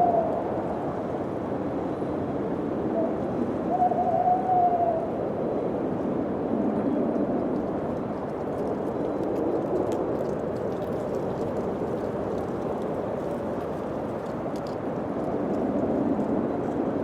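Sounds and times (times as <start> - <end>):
thin howling wind tone: 0.0 - 17.0.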